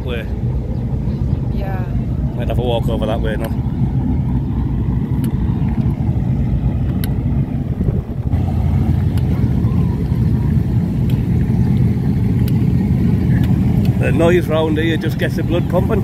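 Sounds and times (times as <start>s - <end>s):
car engines rumbling: 0.0s - 16.0s.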